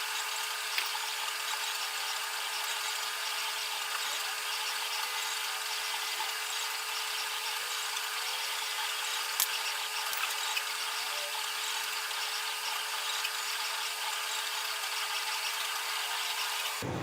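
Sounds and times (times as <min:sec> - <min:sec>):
small motor whirring: 0:00.0 - 0:16.8.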